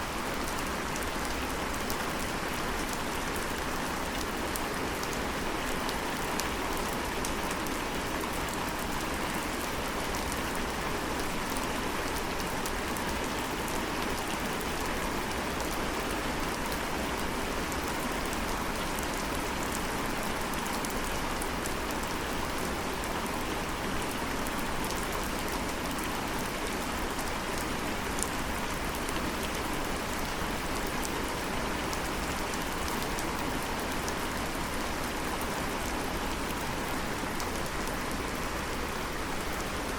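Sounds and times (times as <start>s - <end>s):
steady rain with dripping patter: 0.0s - 39.9s.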